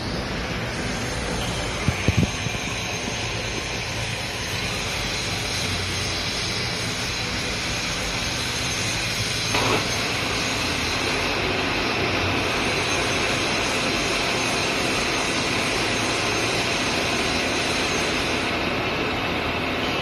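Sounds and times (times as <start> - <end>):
lathe hum and coolant hiss: 0.0 - 20.0.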